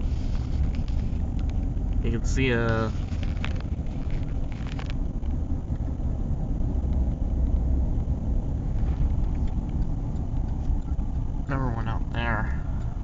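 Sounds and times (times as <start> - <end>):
car driving rumble from inside: 0.0 - 13.0.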